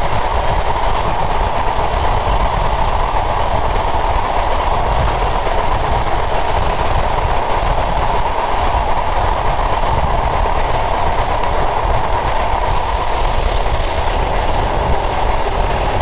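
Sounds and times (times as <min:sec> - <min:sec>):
train wheels rumbling: 0:00.0 - 0:16.0
wind on microphone: 0:00.0 - 0:16.0.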